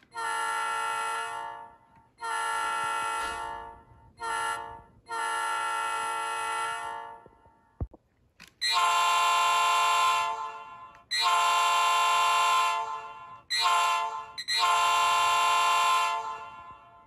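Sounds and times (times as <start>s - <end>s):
locomotive air horn blasts: 0.0s - 7.6s, 8.6s - 17.0s.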